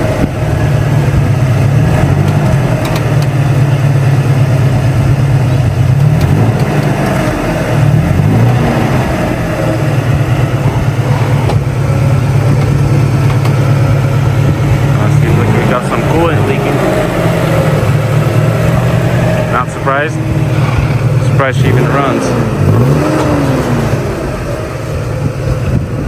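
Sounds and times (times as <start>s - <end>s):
pickup truck engine running: 0.0s - 26.0s.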